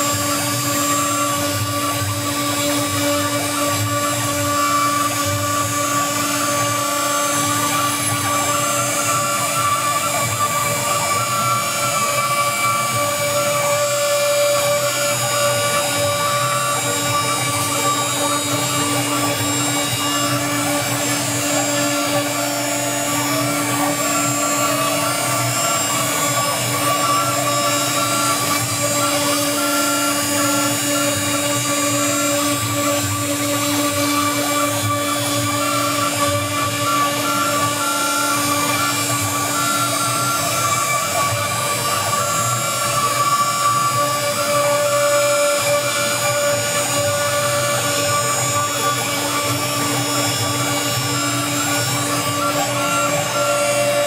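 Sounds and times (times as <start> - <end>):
cnc router machine whine: 0.0 - 54.0.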